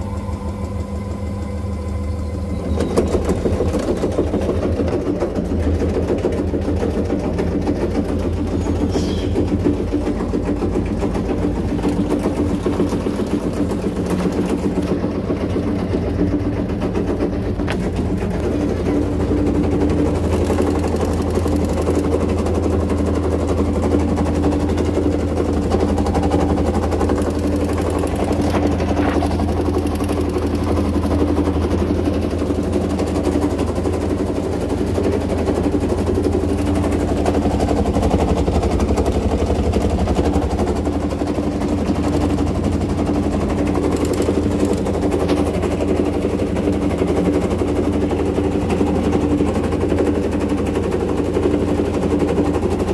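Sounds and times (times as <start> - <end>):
washing machine motor hum: 0.0 - 52.9
washing machine rattling: 0.0 - 52.9.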